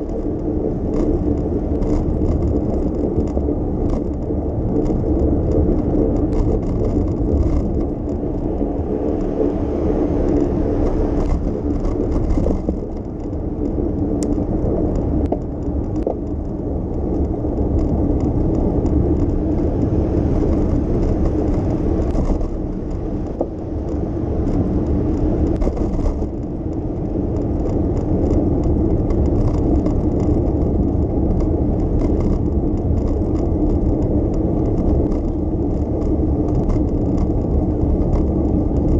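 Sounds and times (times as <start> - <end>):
bicycle rattling: 0.0 - 38.9
bicycle rolling rumble: 0.0 - 38.9
bicycle whir: 0.0 - 38.9.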